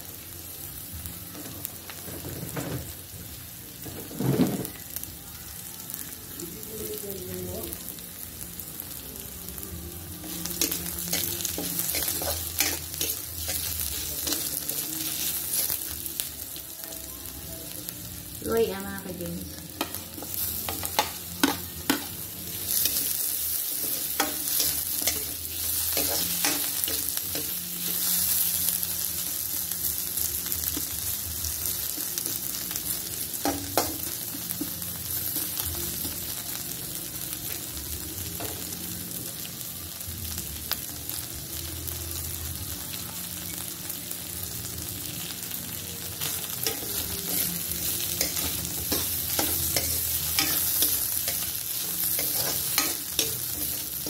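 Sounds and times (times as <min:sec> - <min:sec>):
garlic and onion sizzling in oil: 0:00.0 - 0:54.0.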